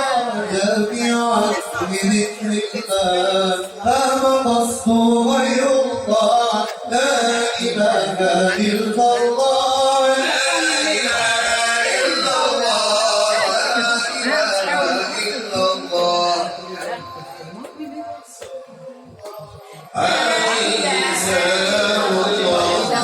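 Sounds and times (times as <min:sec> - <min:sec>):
male group singing a chant: 0:00.0 - 0:23.0.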